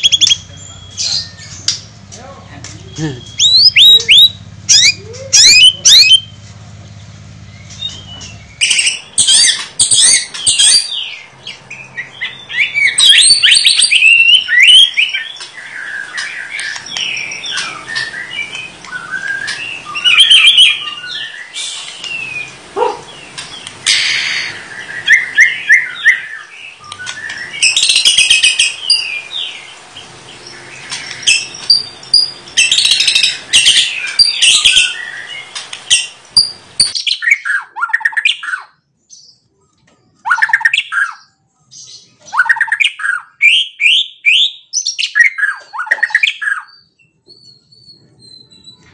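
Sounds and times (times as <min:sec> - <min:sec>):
songbird singing varied whistles: 0:00.0 - 0:01.8, 0:02.8 - 0:06.4, 0:07.5 - 0:29.7, 0:30.7 - 0:38.7, 0:40.2 - 0:41.2, 0:41.8 - 0:48.9.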